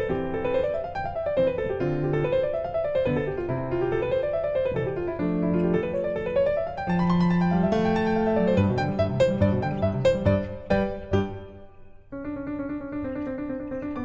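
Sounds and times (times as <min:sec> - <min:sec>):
piano arpeggios: 0:00.0 - 0:14.0.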